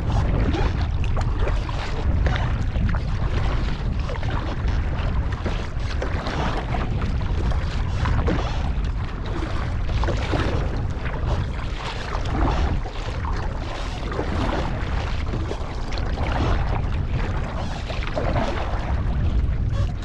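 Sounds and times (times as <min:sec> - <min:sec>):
paddle strokes splashing water: 0:00.0 - 0:20.0
wind rumble on microphone: 0:00.0 - 0:20.0.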